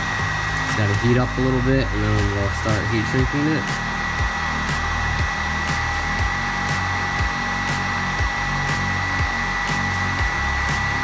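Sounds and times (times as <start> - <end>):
background music with steady beat: 0.0 - 11.0
heat gun blowing: 0.0 - 11.0.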